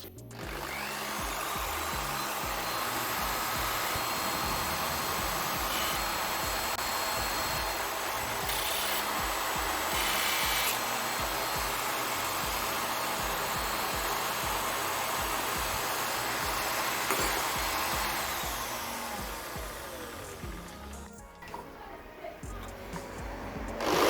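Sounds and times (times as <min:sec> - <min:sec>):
power tool motor running: 0:00.0 - 0:21.1, 0:22.6 - 0:24.0
tool working against hard surface: 0:00.0 - 0:21.1, 0:22.6 - 0:24.0
hissing bursts: 0:00.0 - 0:21.2, 0:22.5 - 0:24.0
background music with bass line: 0:00.0 - 0:24.0.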